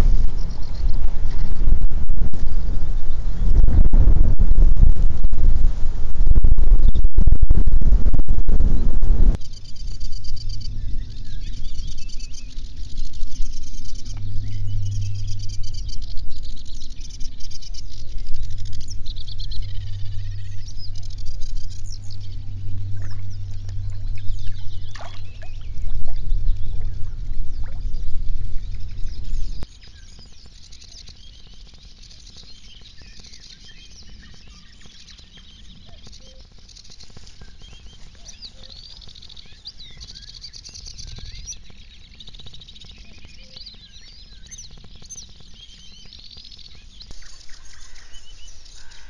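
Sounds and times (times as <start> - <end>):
low steady hum: 0.0 - 49.0
birds singing: 9.4 - 49.0.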